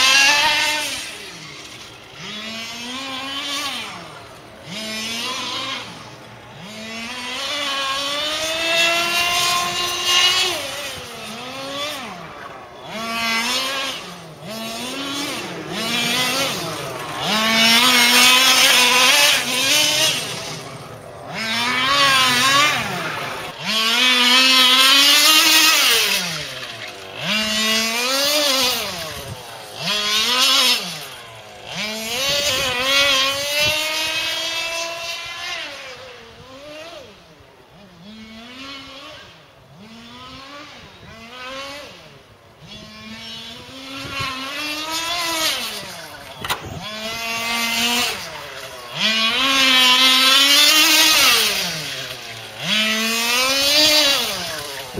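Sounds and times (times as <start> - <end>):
rc car engine accelerating: 0.0 - 54.9.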